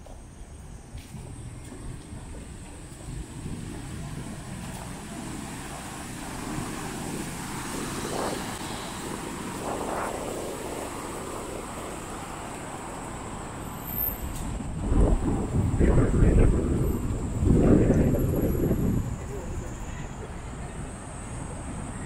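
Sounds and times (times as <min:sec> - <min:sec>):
distant traffic rumble: 0:00.0 - 0:22.0.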